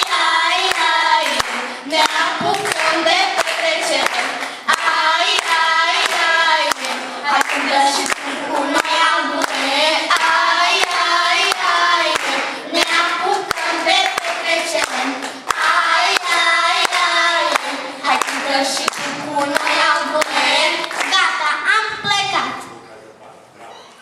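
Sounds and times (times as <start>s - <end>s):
hand claps: 0.0s - 21.2s
girls singing together: 0.0s - 22.3s.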